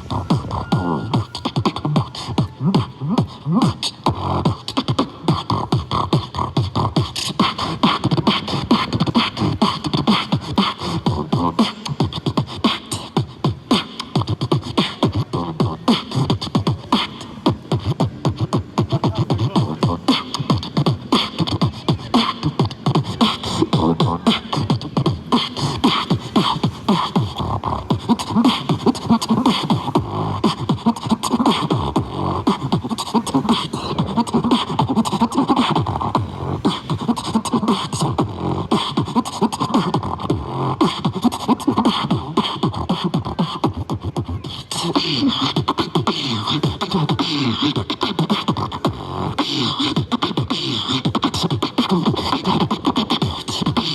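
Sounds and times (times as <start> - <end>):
beatboxing: 0.0 - 53.9.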